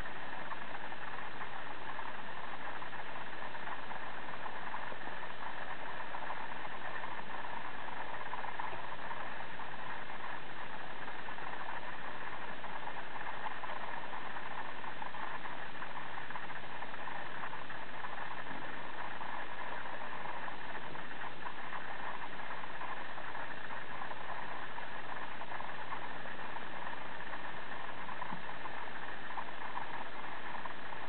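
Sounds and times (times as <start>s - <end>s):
mechanical hum with hiss: 0.0s - 31.0s.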